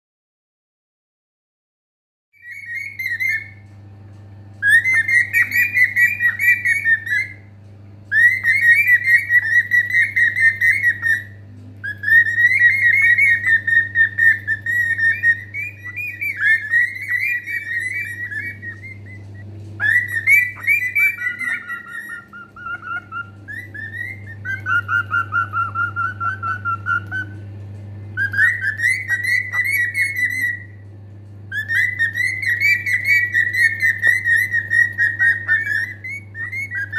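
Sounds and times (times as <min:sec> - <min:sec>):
cockatiel whistling: 0:02.4 - 0:03.7, 0:04.6 - 0:07.5, 0:08.1 - 0:27.4, 0:28.2 - 0:30.8, 0:31.5 - 0:36.9
faint low hum: 0:02.4 - 0:36.9.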